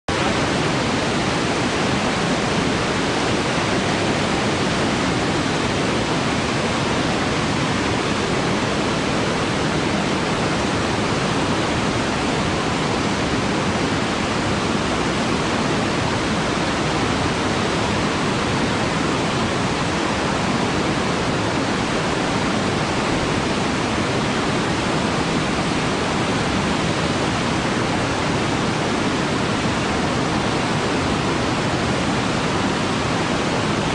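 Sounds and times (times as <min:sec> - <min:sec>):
river in flood rushing: 0:00.1 - 0:33.9.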